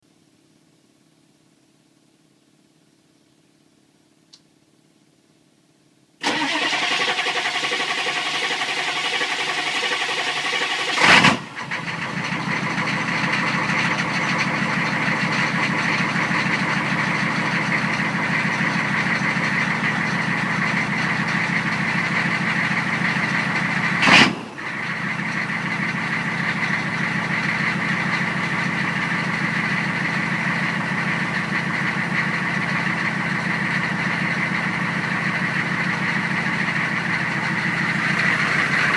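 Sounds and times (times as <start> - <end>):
diesel engine running: 6.2 - 38.9.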